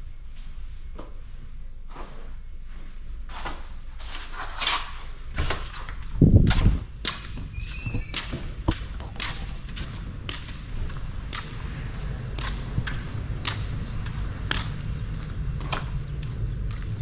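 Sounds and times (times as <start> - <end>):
footsteps: 0.4 - 17.0.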